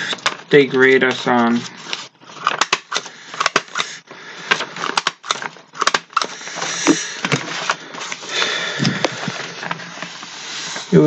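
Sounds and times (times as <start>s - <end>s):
rustling handling noise: 0.0s - 3.8s, 4.4s - 11.0s.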